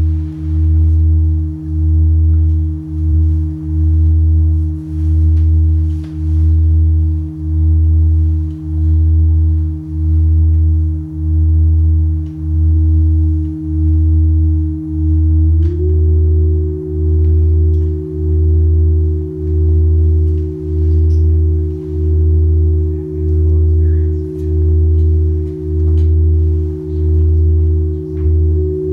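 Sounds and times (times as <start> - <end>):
higher sine tones: 0.0 - 28.9
low throbbing oscillator tone: 0.0 - 28.9.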